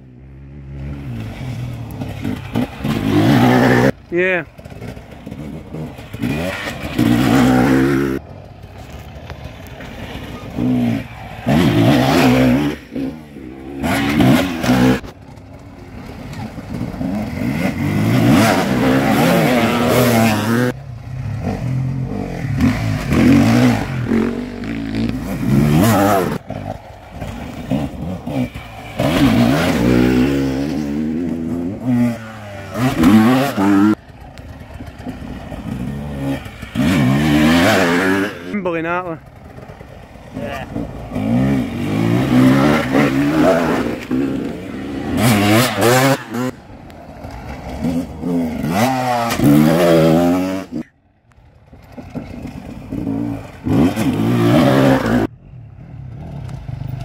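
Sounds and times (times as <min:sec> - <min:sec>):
dirt bikes revving: 0:00.0 - 0:57.0.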